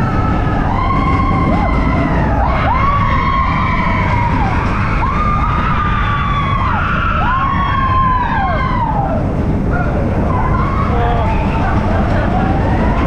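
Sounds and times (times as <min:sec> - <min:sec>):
riders screaming: 0:00.0 - 0:13.0
roller coaster train rumbling: 0:00.0 - 0:13.0.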